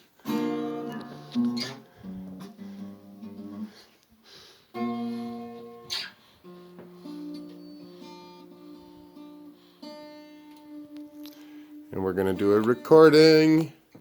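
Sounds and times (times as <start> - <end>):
guitar chords strummed: 0.2 - 3.9, 4.7 - 13.7.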